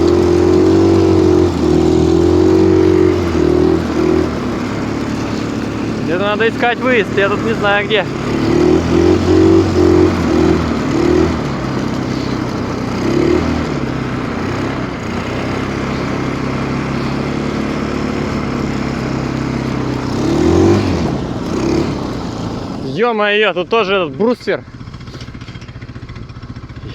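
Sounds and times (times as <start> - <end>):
snowmobile engine revving: 0.0 - 26.9.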